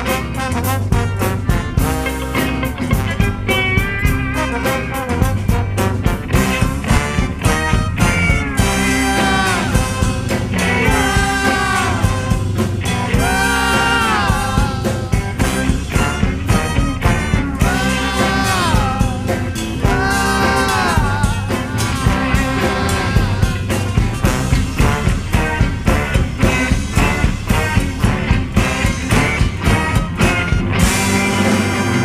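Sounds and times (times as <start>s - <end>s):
band music with steady beat: 0.0s - 32.0s.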